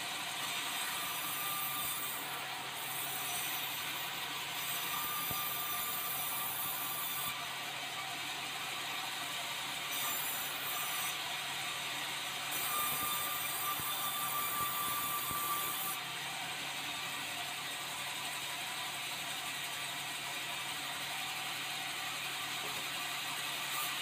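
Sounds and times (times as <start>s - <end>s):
bandsaw running: 0.0s - 24.0s.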